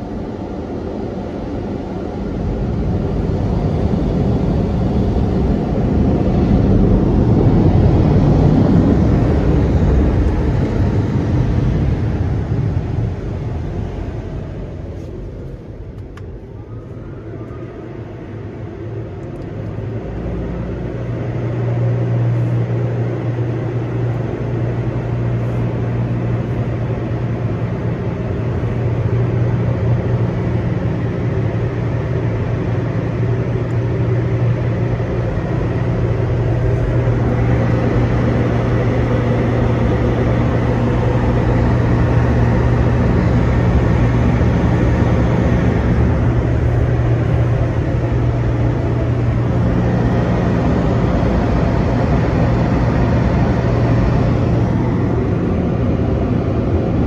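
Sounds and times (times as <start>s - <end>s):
blower dryers humming: 0.0s - 57.0s.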